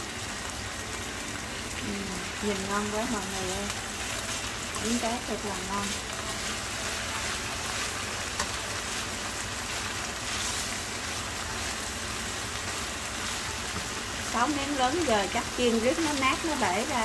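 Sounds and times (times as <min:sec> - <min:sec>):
fish sizzling in a frying pan: 0:00.0 - 0:17.0.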